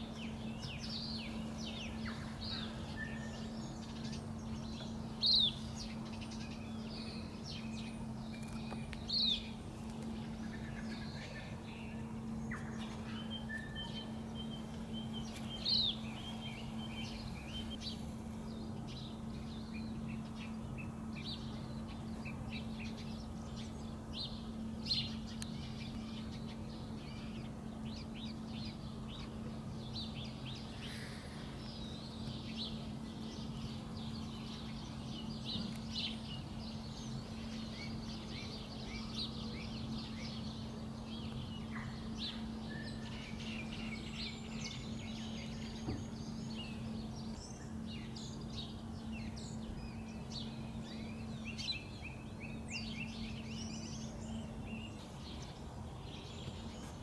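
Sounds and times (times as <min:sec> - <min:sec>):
birds chirping and calling: 0:00.0 - 0:57.0
steady low hum: 0:00.0 - 0:57.0.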